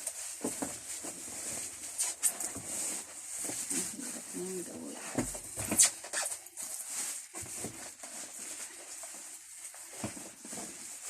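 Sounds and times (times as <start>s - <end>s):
cardboard packaging rustling and scraping: 0.0s - 11.0s.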